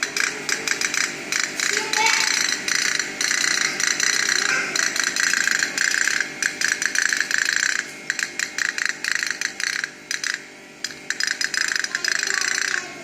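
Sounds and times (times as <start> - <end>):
toy steam boat clicking rapidly: 0.0 - 13.0.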